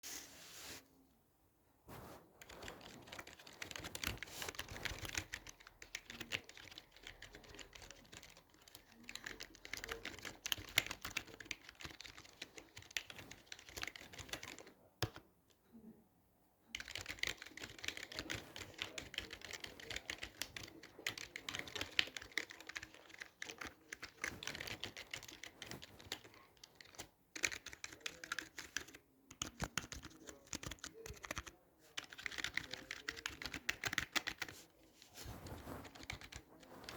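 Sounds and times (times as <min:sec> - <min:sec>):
computer keyboard typing: 0:02.4 - 0:15.2, 0:16.7 - 0:34.6, 0:35.5 - 0:36.5.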